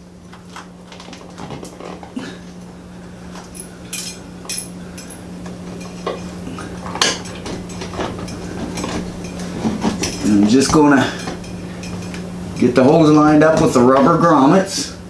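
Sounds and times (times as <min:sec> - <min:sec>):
steady low hum: 0:00.0 - 0:15.0
wires and hardware clicking and rattling: 0:00.3 - 0:02.2, 0:03.3 - 0:14.6.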